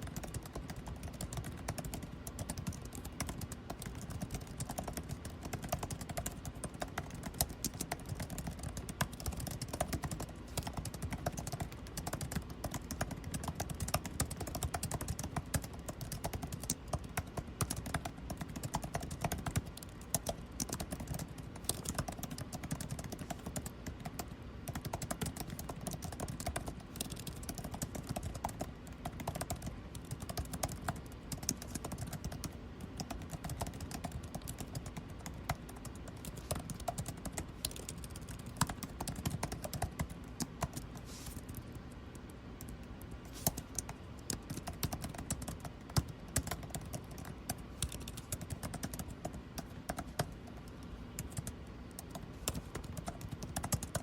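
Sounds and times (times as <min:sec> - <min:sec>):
air conditioning hum: 0:00.0 - 0:54.0
typing on computer keyboard: 0:00.0 - 0:54.0.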